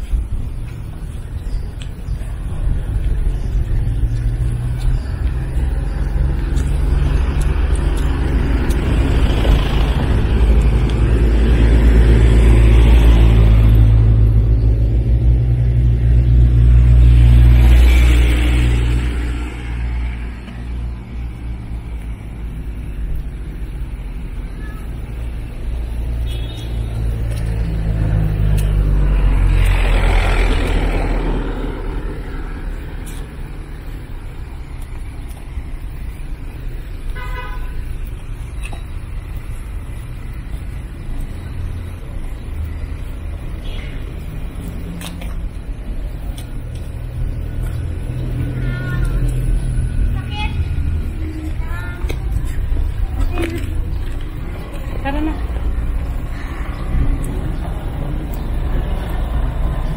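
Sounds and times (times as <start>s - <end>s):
deep traffic rumble: 0.0s - 59.9s
vehicles passing close by: 0.0s - 59.9s.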